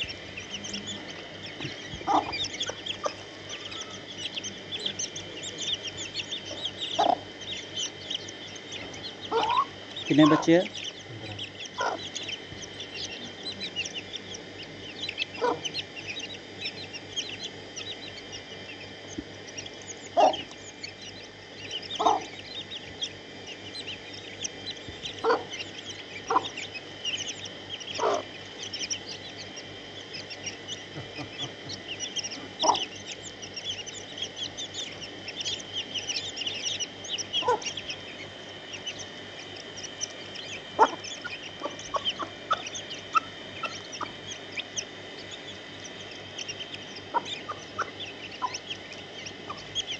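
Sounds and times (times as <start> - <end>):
chicks peeping: 0.0 - 49.9
hen clucking: 0.0 - 49.9.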